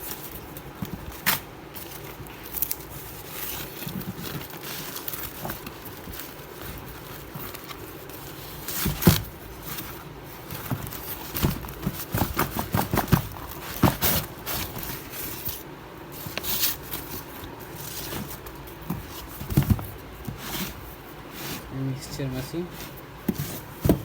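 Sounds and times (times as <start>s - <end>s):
packaging rustling: 0.0s - 21.7s
knocks and scrapes of handling: 0.0s - 24.0s.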